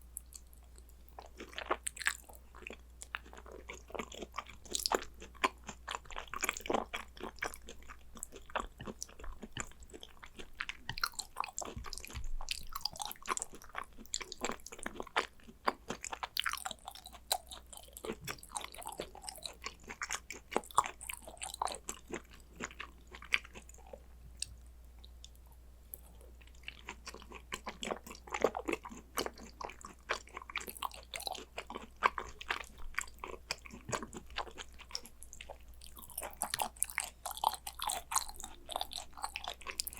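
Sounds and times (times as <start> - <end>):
close chewing and mouth noises: 0.0 - 39.9.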